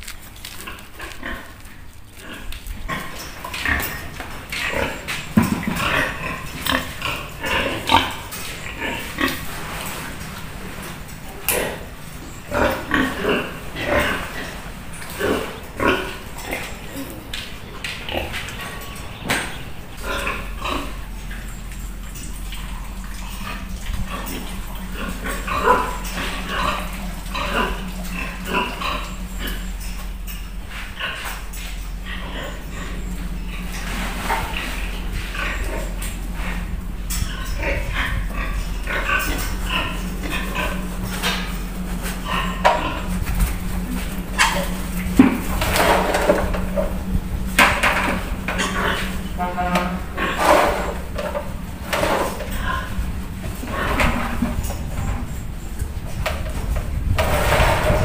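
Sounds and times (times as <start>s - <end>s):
steady low hum: 0.0s - 58.0s
pigs grunting: 0.4s - 58.0s.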